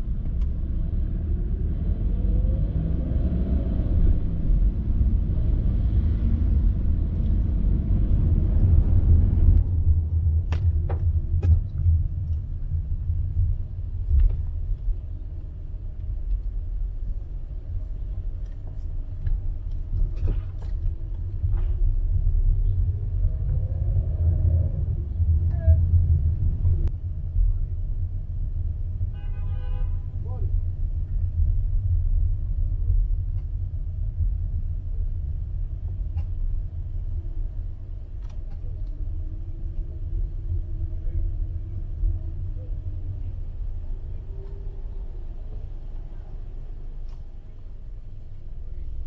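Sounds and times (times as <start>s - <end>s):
city street rumble: 0.0s - 49.0s.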